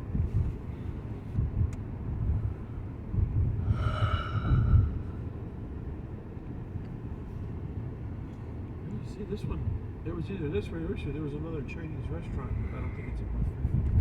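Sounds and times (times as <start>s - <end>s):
road rumble inside car: 0.0s - 14.0s.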